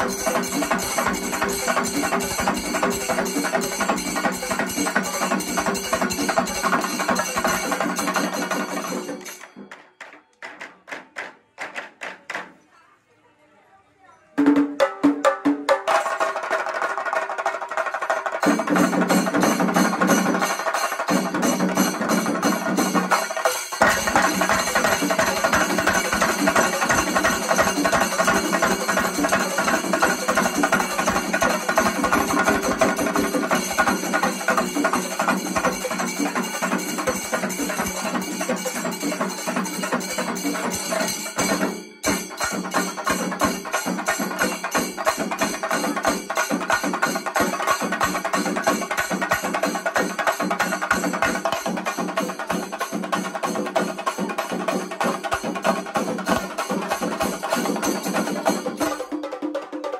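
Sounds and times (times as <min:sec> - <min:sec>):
hand cymbals clashing: 0:00.0 - 0:09.8, 0:18.4 - 0:59.1
drums beaten with sticks: 0:00.0 - 0:12.6, 0:14.4 - 0:59.9.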